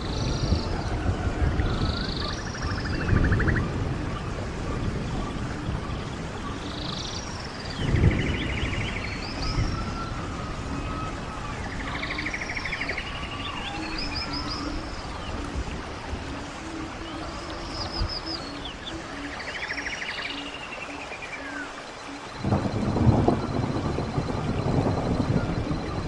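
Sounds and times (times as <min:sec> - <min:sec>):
birds singing: 0:00.0 - 0:26.0
stream water rushing: 0:00.0 - 0:26.0.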